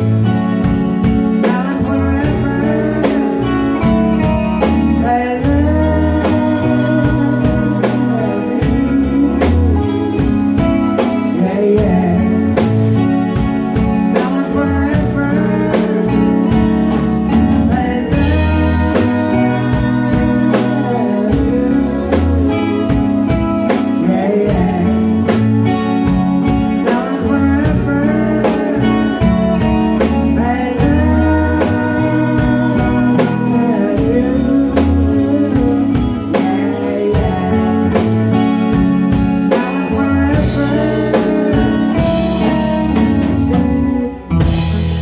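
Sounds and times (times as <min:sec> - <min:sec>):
bass guitar: 0:00.0 - 0:45.0
drum kit beat: 0:00.0 - 0:45.0
electric guitars: 0:00.0 - 0:45.0
man singing lead vocal: 0:00.0 - 0:45.0.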